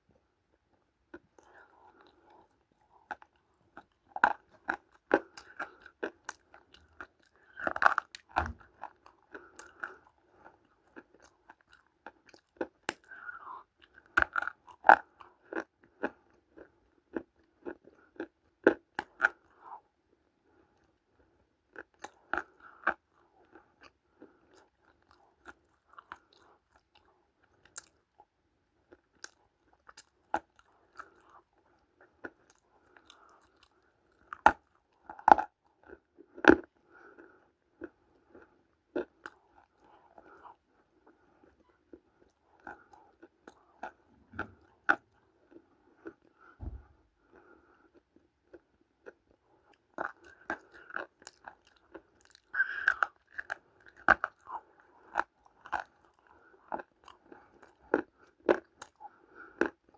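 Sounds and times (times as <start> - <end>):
chewing dry clay crunches: 1.1 - 19.8, 20.4 - 59.9.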